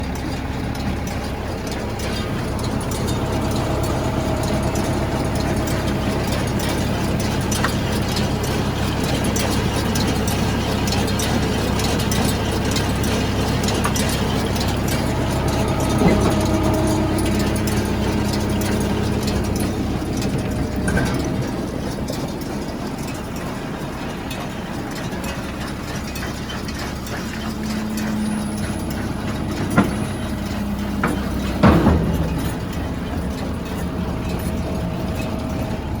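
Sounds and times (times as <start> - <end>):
farm equipment engine idling: 0.0 - 36.0.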